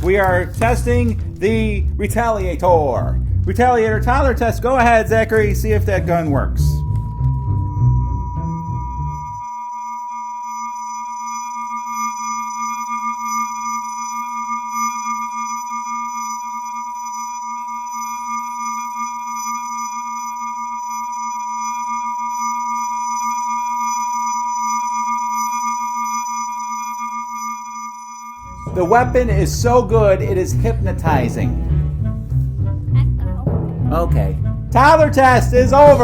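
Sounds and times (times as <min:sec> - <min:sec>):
steady electronic tone: 0:03.8 - 0:33.3.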